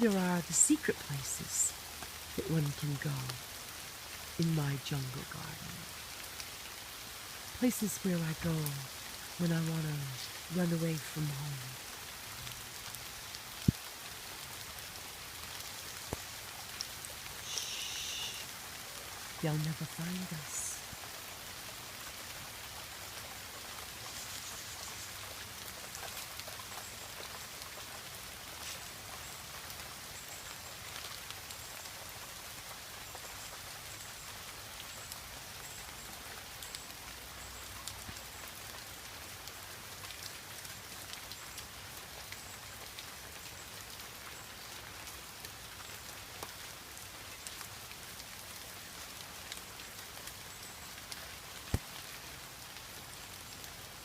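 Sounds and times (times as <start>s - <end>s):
rain on foliage: 0.0s - 54.0s.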